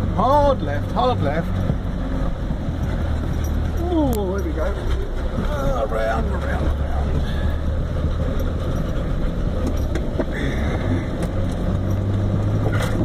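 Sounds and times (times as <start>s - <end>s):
knocks and rattles over bumps: 0.0s - 13.0s
truck engine droning: 0.0s - 13.0s.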